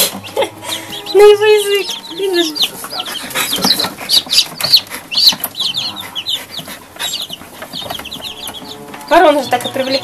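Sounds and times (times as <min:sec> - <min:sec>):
baby chicks peeping: 0:00.0 - 0:10.0.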